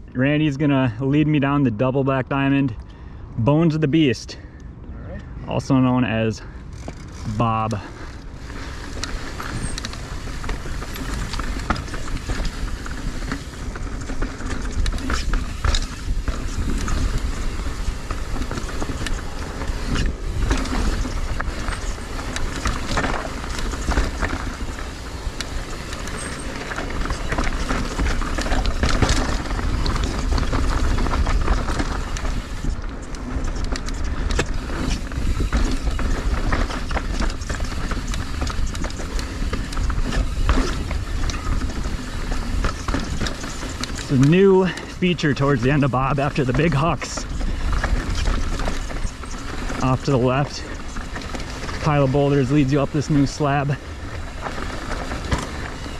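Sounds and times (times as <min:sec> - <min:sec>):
wind rumbling on microphone: 0:04.7 - 0:55.9
bike clattering and rattling: 0:06.3 - 0:55.9
bike tyres rumbling over rock: 0:06.7 - 0:55.9.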